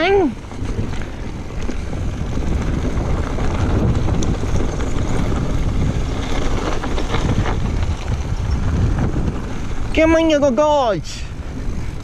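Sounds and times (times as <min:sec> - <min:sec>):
bike clicks and rattles: 0:00.0 - 0:12.0
bike tyre noise: 0:00.0 - 0:12.0
wind rushing over microphone: 0:00.0 - 0:12.0.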